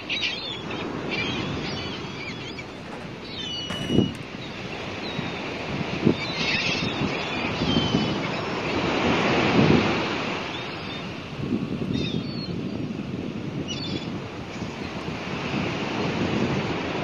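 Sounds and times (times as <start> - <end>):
wind buffeting microphone: 0.3 - 17.0.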